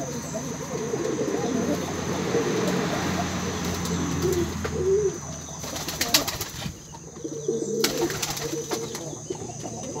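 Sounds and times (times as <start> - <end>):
pigeon cooing: 0.0 - 10.0.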